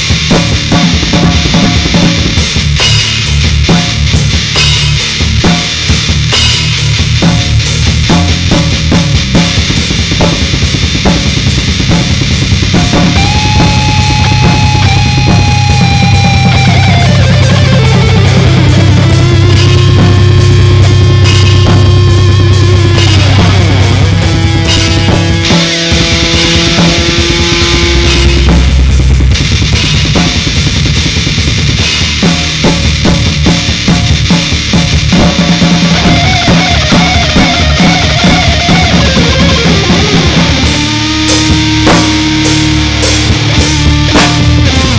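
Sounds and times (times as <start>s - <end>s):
drum kit beating: 0.0s - 44.9s
heavy metal music: 0.0s - 44.9s
low bass: 2.3s - 33.4s, 34.1s - 44.9s.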